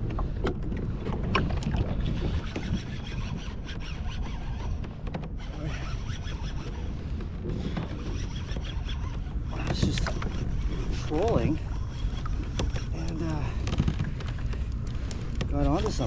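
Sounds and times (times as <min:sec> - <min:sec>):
water lapping at hull: 0:00.0 - 0:16.0
wind rumble on microphone: 0:00.0 - 0:16.0.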